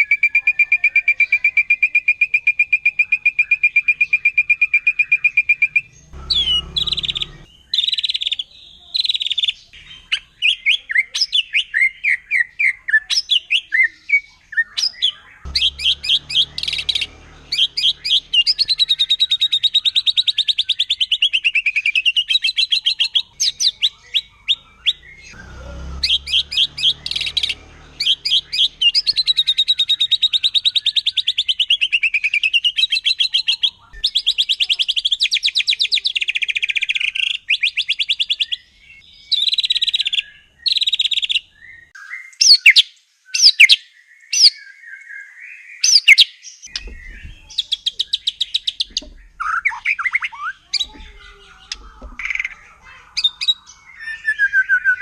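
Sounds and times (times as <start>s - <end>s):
songbird singing trills and whistles: 0.0s - 25.4s, 26.0s - 55.0s.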